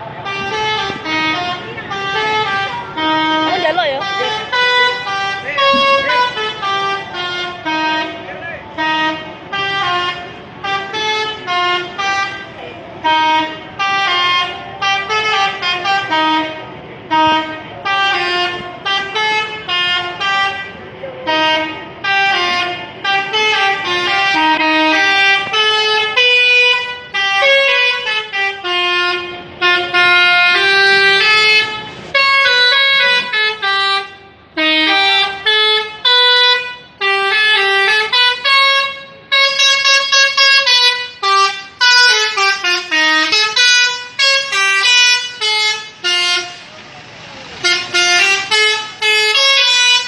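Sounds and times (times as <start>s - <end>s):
musical bus horn playing a tune: 0.0s - 50.0s.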